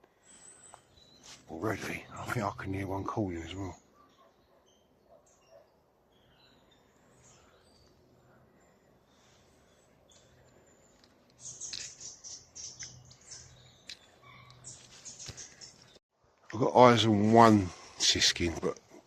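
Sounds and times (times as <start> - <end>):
birds twittering: 0.1 - 16.0.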